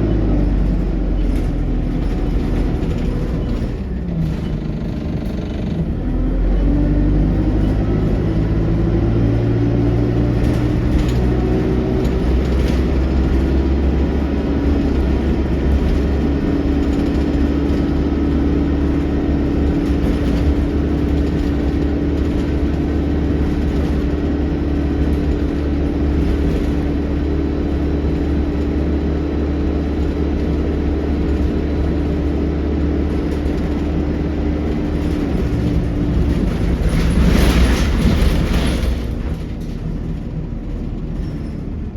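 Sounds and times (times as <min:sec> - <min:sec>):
bus engine whining: 0:00.0 - 0:41.9.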